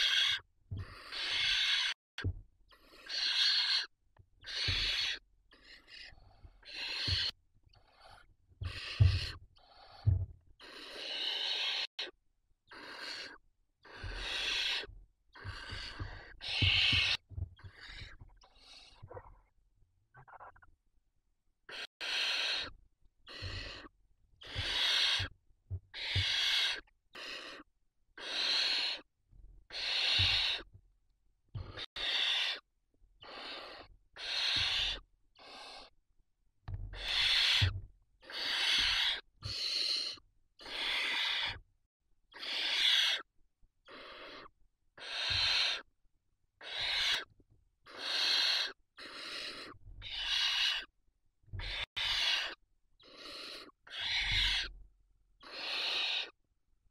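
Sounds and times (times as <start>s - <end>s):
owl chicks hissing: 0.0s - 2.0s, 2.7s - 19.0s, 21.7s - 25.3s, 25.9s - 29.1s, 29.7s - 30.7s, 31.6s - 32.6s, 33.2s - 35.9s, 36.9s - 41.6s, 42.3s - 45.9s, 46.6s - 50.9s, 51.6s - 54.7s, 55.4s - 56.4s.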